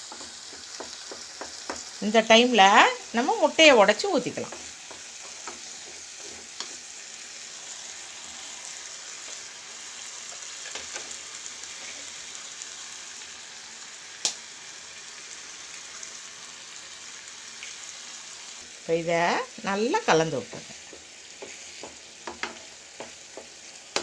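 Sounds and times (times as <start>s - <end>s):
masala sizzling in a pan: 0.0s - 24.0s.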